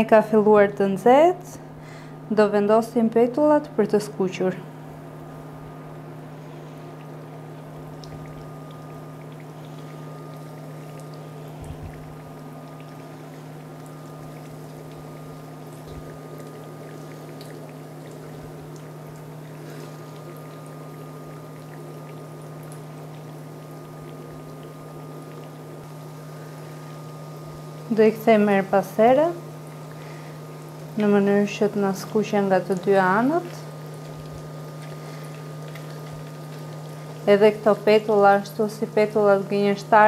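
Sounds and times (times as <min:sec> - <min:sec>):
steady low hum: 0:00.0 - 0:40.0
oil bubbling and sizzling: 0:04.7 - 0:40.0.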